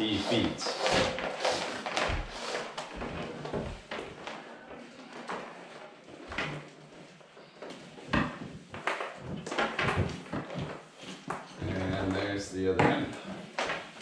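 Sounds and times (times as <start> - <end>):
cable scraping through drywall: 0.0 - 14.0.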